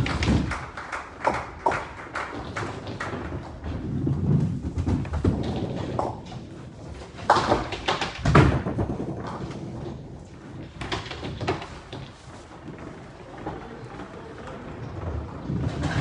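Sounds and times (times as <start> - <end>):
balls knocking into pins: 0.0 - 16.0
bowling balls rumbling: 0.0 - 16.0.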